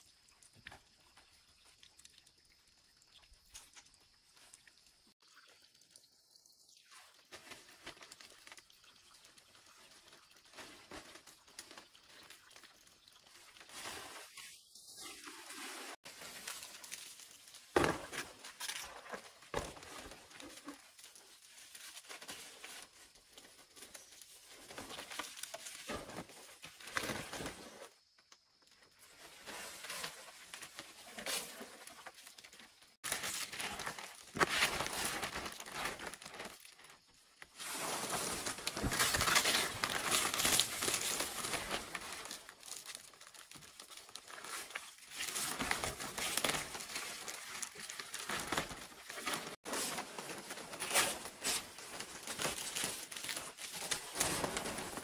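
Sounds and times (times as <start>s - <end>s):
rustling and crinkling: 6.9s - 55.0s.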